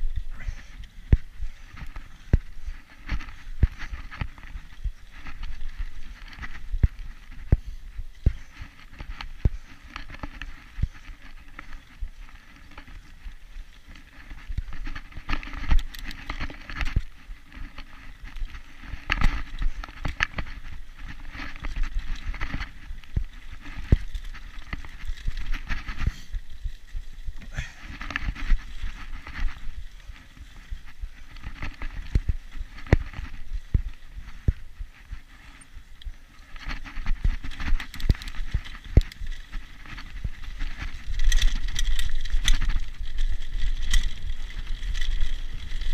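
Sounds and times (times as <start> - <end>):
bike knocking and rattling: 0.0 - 45.9
bike tyres on dirt trail: 0.0 - 45.9.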